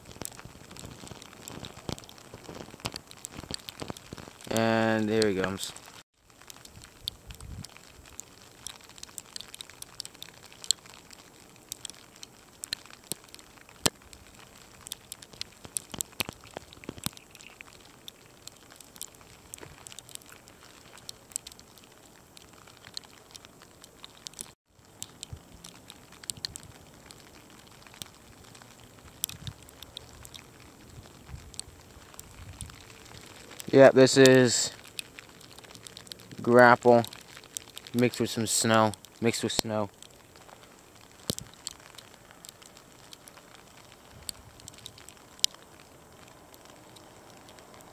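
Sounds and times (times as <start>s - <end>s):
snow pellets pattering: 0.0s - 47.9s.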